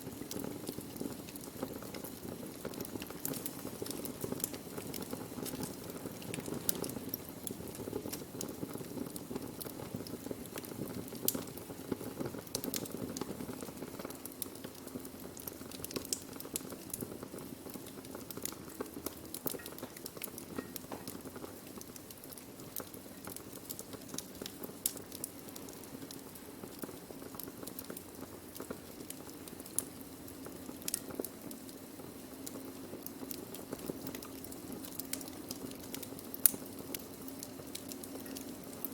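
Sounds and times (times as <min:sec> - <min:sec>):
low rush of flames: 0:00.0 - 0:38.9
wood fire crackling and popping: 0:00.0 - 0:38.9.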